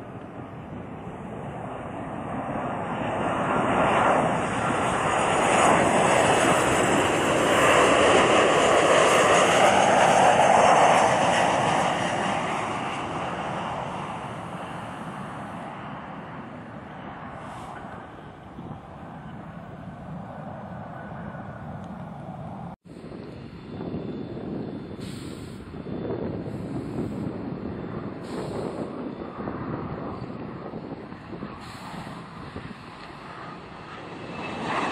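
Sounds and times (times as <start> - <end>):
high engine whine: 0.0 - 34.9
jet airliner passing: 0.0 - 34.9.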